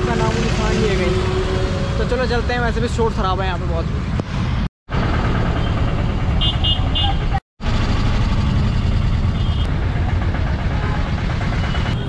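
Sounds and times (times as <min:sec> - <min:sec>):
auto-rickshaw rumbling: 0:00.0 - 0:12.0.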